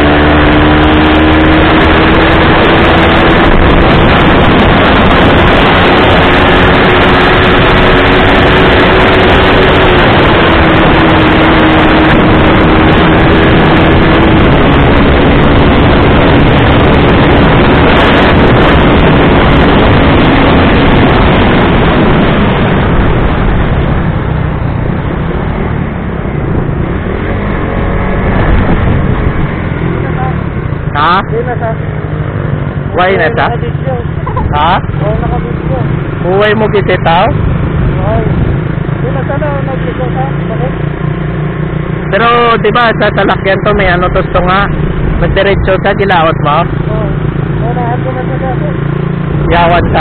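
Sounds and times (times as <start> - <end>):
motorcycle engine running: 0.0 - 50.0
wind rush on microphone: 0.0 - 50.0.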